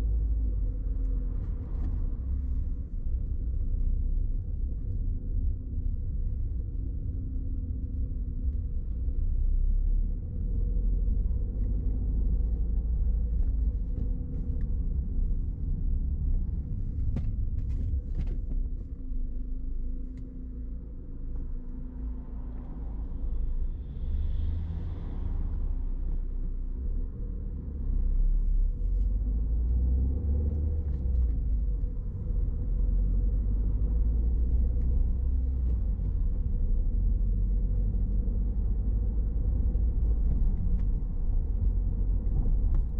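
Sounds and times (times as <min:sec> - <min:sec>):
car engine and tyres rumbling: 0:00.0 - 0:42.9.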